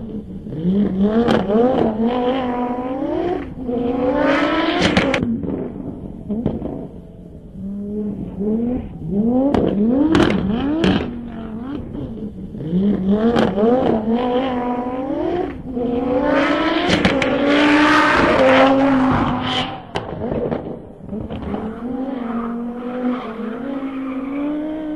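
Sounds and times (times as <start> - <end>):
rally car engine revving: 0.0 - 24.9.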